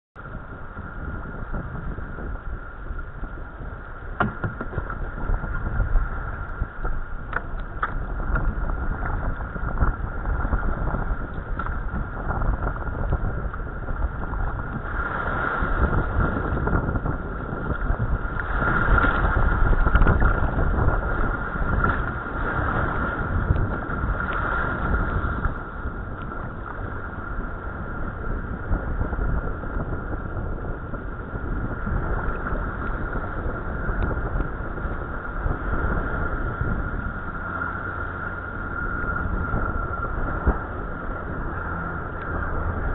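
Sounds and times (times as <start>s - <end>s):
water rushing against kayak hull: 0.2s - 42.9s
wind buffeting microphone: 0.2s - 42.9s.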